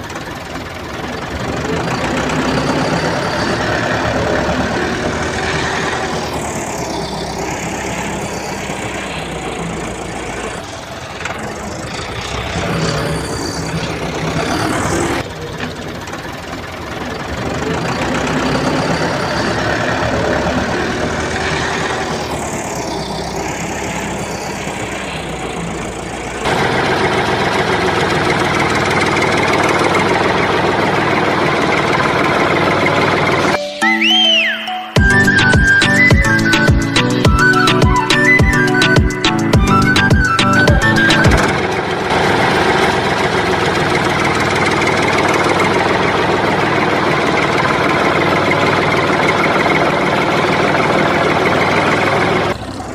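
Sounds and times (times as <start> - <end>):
engine running: 0.0 - 33.6, 35.0 - 52.9.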